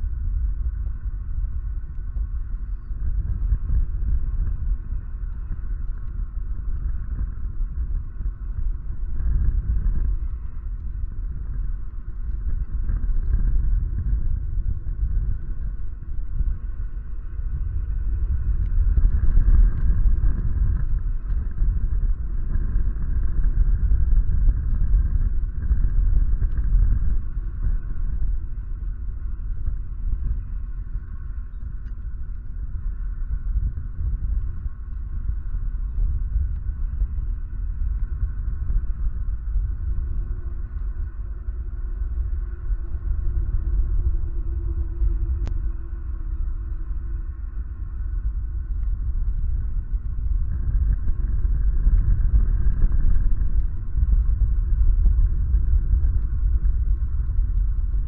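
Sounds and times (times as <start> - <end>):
gusty wind on microphone: 0.0 - 58.0.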